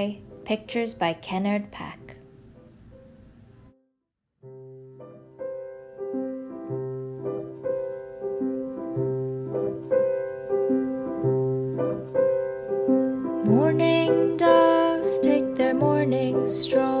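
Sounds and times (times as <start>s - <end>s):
gentle piano music: 0.0s - 3.8s, 4.4s - 17.0s.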